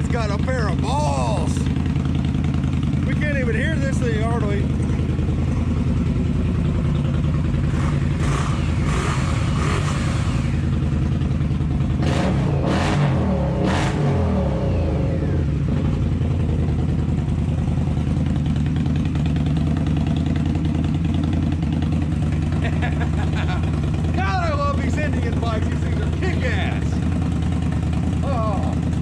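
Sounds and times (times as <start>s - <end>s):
motorcycle engine idling: 0.0s - 12.7s, 13.3s - 29.0s
motorcycle engine revving: 0.0s - 29.0s.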